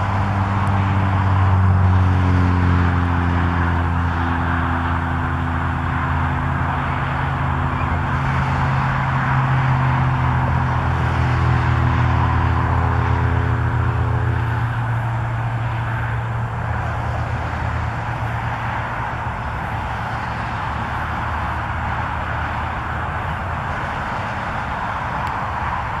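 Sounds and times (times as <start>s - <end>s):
low engine hum: 0.0s - 26.0s
rush of road traffic: 0.0s - 26.0s.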